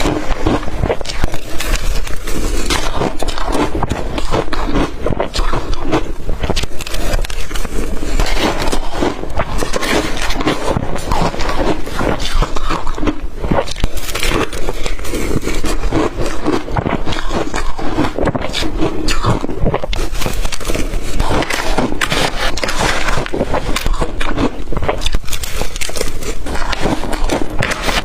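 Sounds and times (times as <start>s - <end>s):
person crunching ice: 0.0s - 28.0s.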